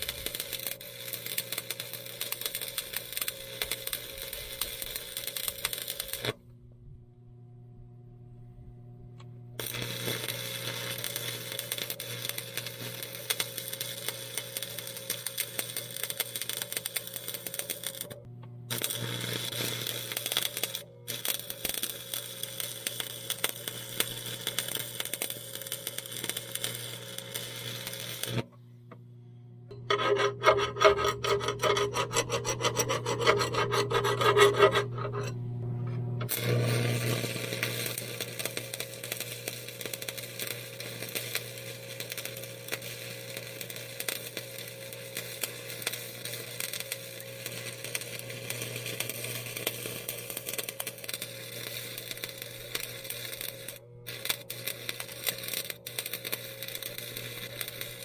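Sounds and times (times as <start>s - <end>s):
grinder grinding on steel: 0.0s - 6.4s, 9.6s - 28.5s, 29.7s - 58.0s.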